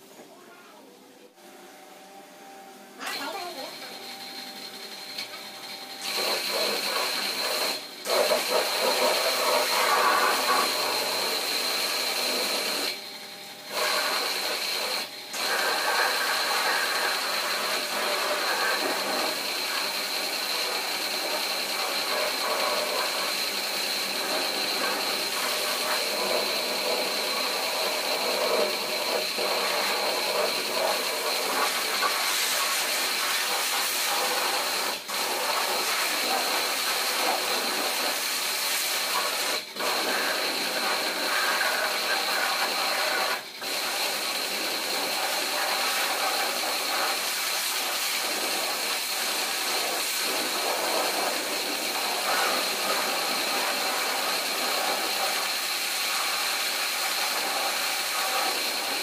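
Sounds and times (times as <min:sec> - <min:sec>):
pump whining: 0:01.7 - 0:55.7
high-pressure water jet spraying: 0:03.0 - 0:04.2, 0:06.0 - 0:13.0, 0:13.7 - 0:59.0.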